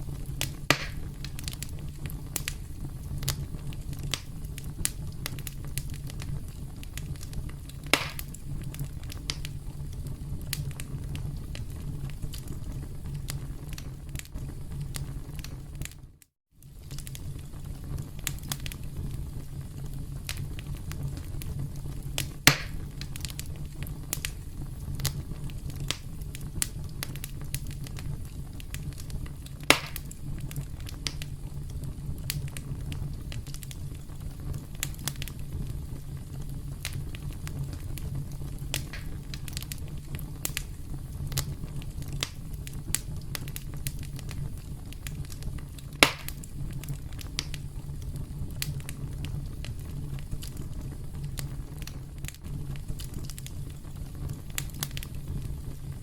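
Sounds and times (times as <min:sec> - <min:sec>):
campfire crackling: 0:00.0 - 0:56.0
loud fire pops: 0:00.0 - 0:56.0.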